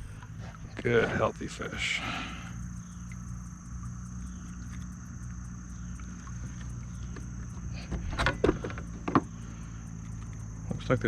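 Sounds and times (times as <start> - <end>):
electric trolling motor hum: 0.0 - 11.0
high insect drone: 0.0 - 11.0.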